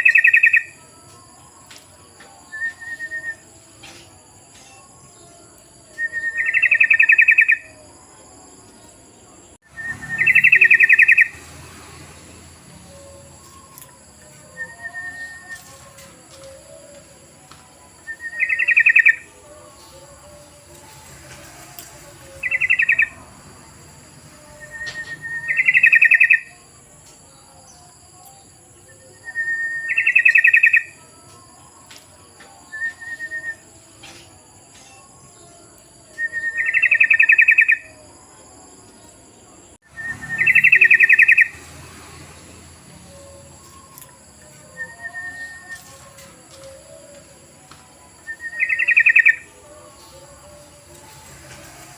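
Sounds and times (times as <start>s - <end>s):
bulbul song: 0.0s - 51.9s.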